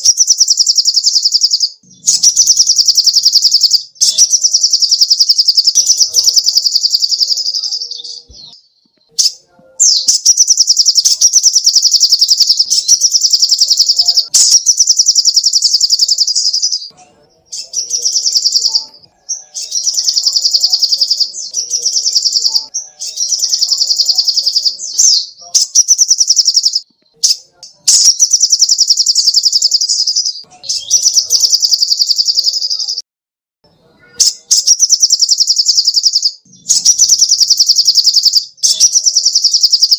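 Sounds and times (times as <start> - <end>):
bird singing high chattering notes: 0.0 - 33.0, 34.0 - 39.9.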